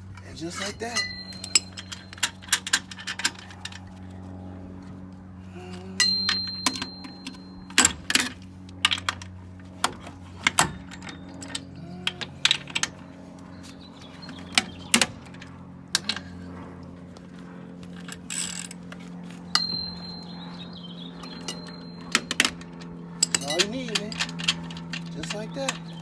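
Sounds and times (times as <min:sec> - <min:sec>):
steady low hum: 0:00.0 - 0:26.0
wrench and lug nuts clinking: 0:00.1 - 0:04.0, 0:05.7 - 0:16.5, 0:17.9 - 0:26.0.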